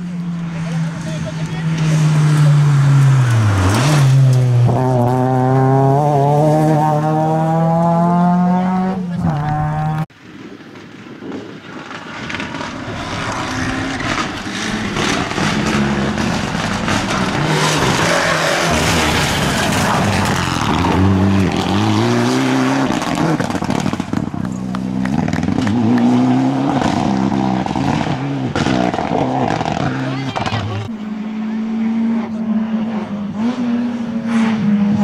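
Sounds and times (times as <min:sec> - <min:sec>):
rally car approaching: 0:00.0 - 0:10.1, 0:11.3 - 0:35.0
rally car engine pulling hard: 0:00.1 - 0:10.1, 0:11.8 - 0:35.0.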